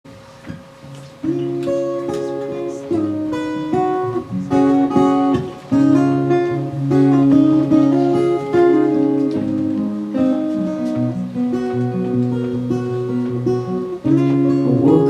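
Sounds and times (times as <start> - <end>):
fingerpicked acoustic guitar: 0.1 - 15.0.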